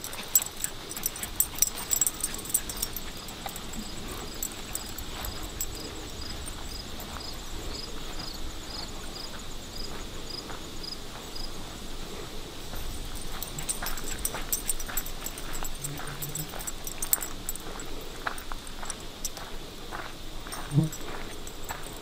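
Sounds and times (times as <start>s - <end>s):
insect chirping: 0.0s - 22.0s
footsteps crunching on dry trail: 0.1s - 22.0s.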